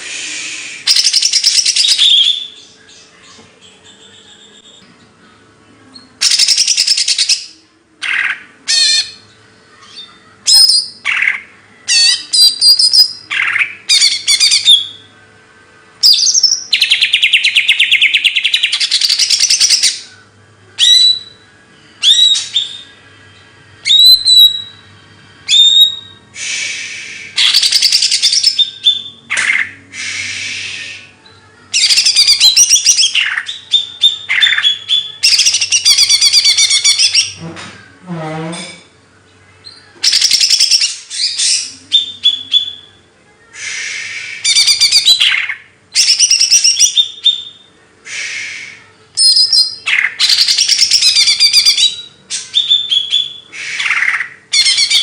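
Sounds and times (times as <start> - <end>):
bird trills and chirps: 0.9 - 5.2, 5.9 - 15.1, 16.0 - 24.9, 25.5 - 37.5, 38.6 - 55.0.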